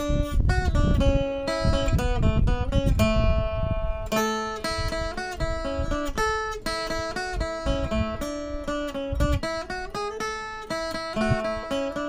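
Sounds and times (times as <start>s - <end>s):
acoustic guitar picking melody: 0.0s - 12.0s.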